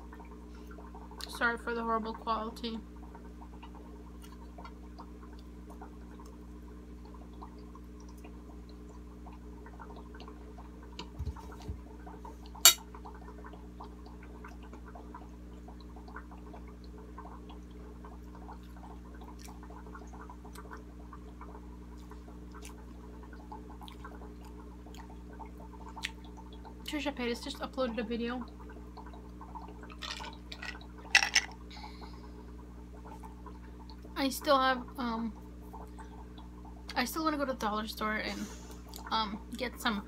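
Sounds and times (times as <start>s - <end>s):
water trickling: 0.0s - 40.0s.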